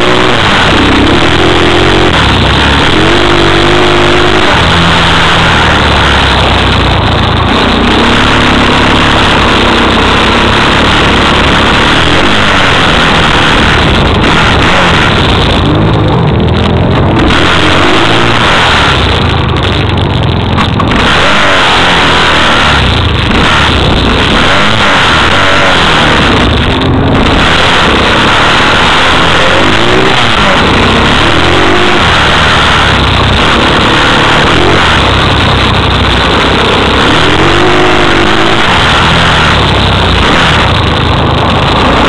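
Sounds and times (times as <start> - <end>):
atv engine revving: 0.0 - 42.0
wheel and suspension rumble: 0.0 - 42.0.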